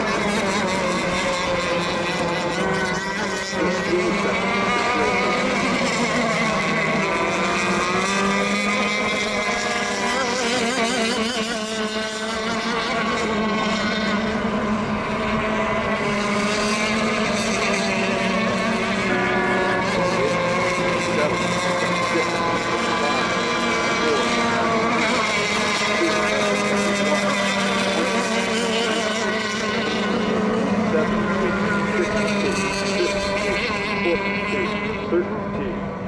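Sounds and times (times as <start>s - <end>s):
radio-controlled boat engines: 0.0s - 36.0s.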